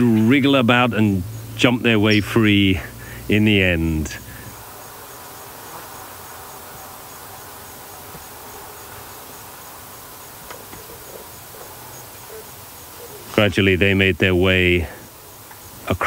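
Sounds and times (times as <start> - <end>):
faint pulsing insect note: 0.0 - 16.0
insect chorus drone: 0.0 - 16.0.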